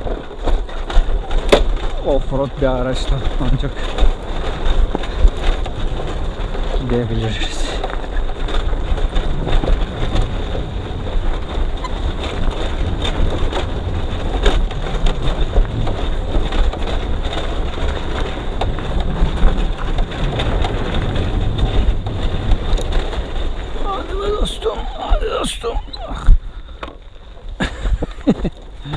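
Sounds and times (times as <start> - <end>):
motorcycle rumble: 0.0 - 28.9
tyres crunching on gravel: 0.0 - 28.9
wind buffeting microphone: 0.0 - 28.9.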